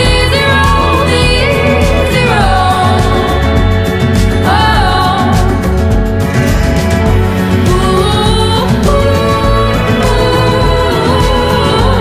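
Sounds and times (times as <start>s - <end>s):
instrumental song with low beat: 0.0s - 12.0s.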